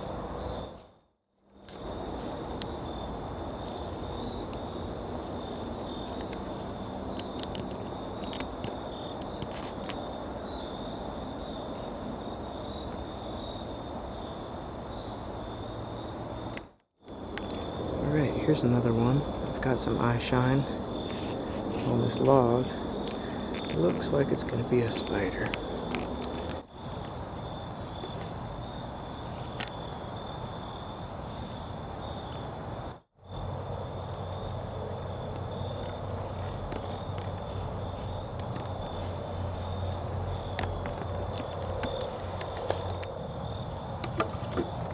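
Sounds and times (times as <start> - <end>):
night insects trilling: 0.0 - 44.9.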